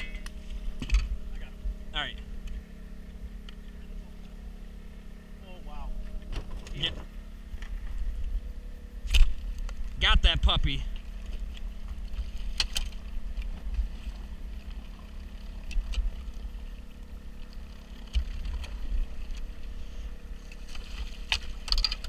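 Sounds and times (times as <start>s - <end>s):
boat motor and generator hum: 0.0s - 22.0s.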